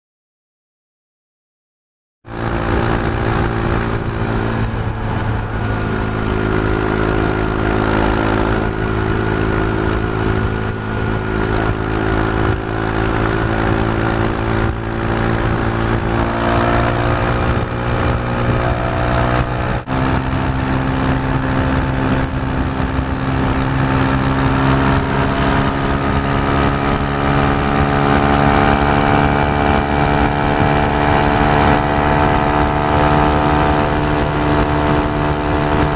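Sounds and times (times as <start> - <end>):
motorcycle engine running: 2.3 - 35.9.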